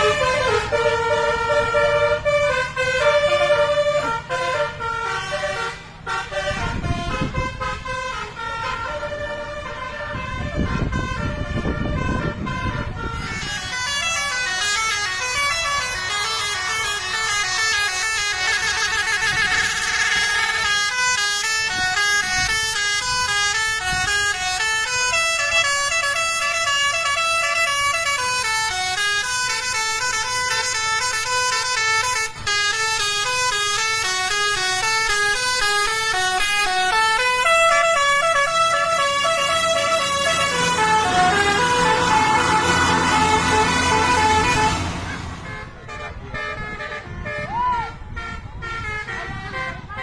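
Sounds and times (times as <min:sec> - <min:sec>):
musical air horn playing tune: 0:00.0 - 0:50.0.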